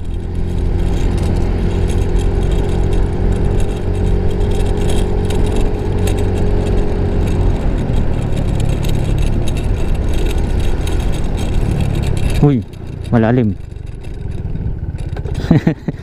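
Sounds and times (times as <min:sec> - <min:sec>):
wind rushing over microphone: 0:00.0 - 0:13.7
scooter engine running: 0:00.0 - 0:16.0.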